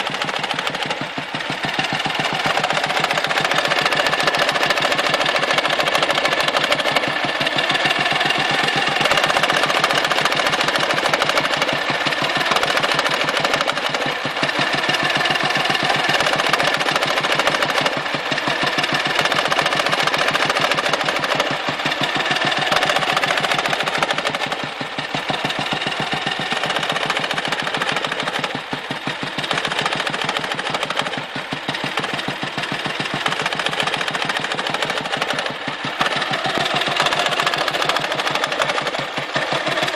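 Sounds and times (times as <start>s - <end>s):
motorcycle engine knocking: 0.0s - 39.9s.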